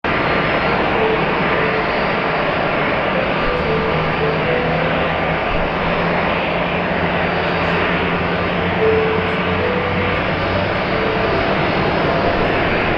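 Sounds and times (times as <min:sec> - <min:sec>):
jet engines running: 0:00.0 - 0:12.9.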